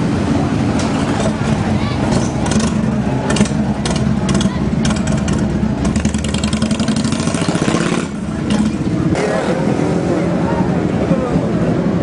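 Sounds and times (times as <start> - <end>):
motorcycle engines idling: 0.0 - 12.0.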